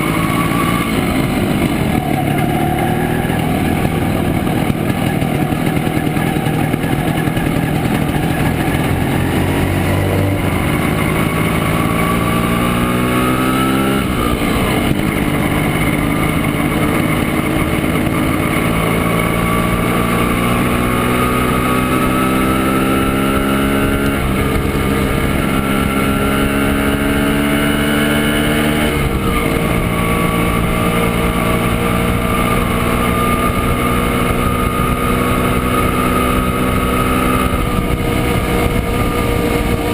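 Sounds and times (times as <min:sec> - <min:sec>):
two-stroke motorcycle engine accelerating: 0:00.0 - 0:39.9.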